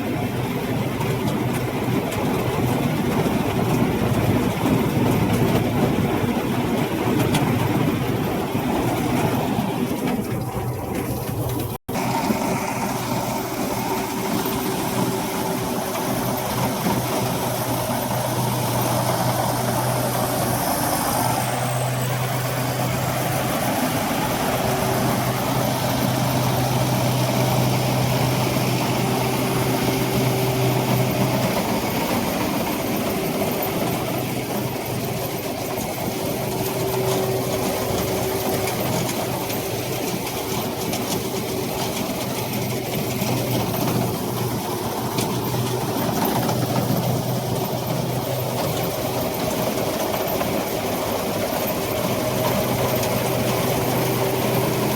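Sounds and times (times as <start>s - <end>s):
combine harvester engine running: 0.0s - 54.9s.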